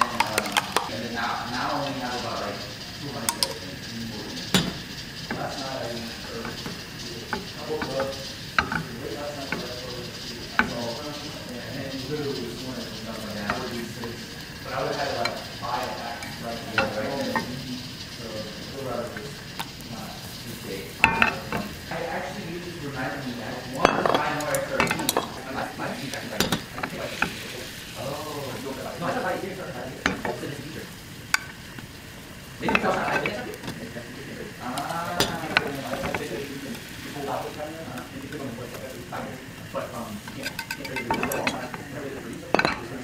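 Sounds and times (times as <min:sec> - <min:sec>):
chopsticks scraping and tapping a pan: 0:00.0 - 0:43.0
egg sizzling in a pan: 0:00.0 - 0:43.0.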